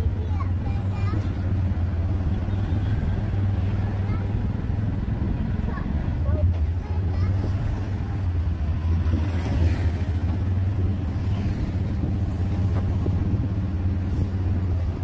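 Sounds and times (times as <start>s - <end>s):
road noise: 0.0s - 15.0s
vehicle engine drone: 0.0s - 15.0s.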